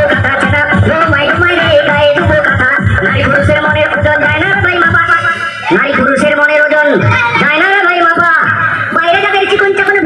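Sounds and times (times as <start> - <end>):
loud dance music: 0.0 - 10.0.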